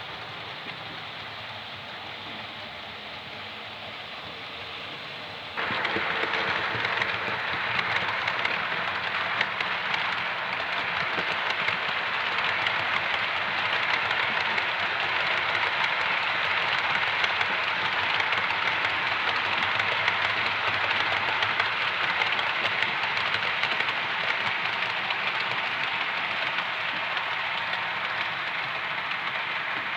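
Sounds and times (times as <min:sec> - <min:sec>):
model train wheels on rail: 0:00.0 - 0:29.9.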